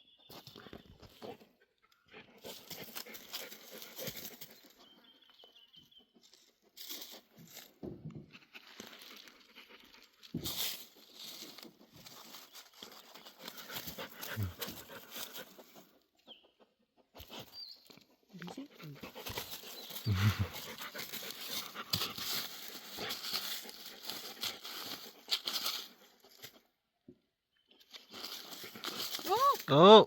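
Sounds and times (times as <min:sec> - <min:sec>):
dog sniffing and rustling: 0:00.6 - 0:05.0, 0:06.2 - 0:16.4, 0:17.0 - 0:26.7, 0:27.8 - 0:29.7.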